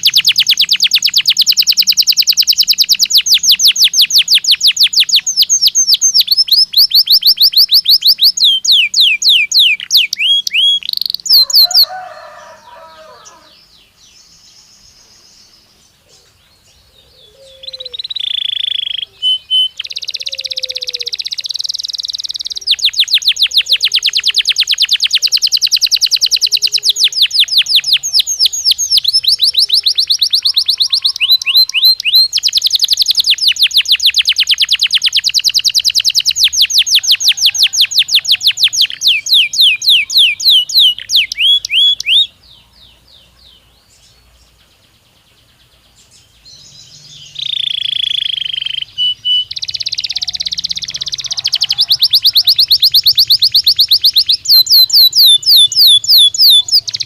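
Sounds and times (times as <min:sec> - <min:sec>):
canary singing in rapid trills: 0:00.0 - 0:14.9, 0:16.8 - 0:57.0.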